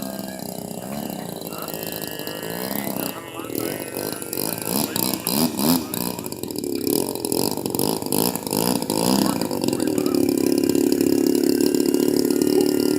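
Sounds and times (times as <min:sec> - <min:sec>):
model airplane engine running: 0:00.0 - 0:12.9.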